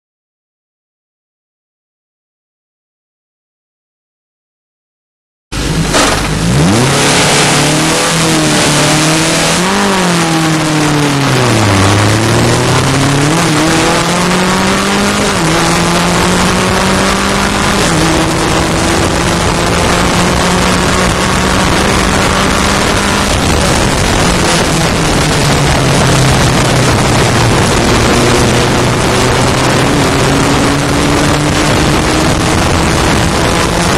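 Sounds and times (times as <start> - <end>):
road noise: 5.5 - 33.9
race car engine accelerating: 5.6 - 33.9
wind noise: 5.6 - 33.9.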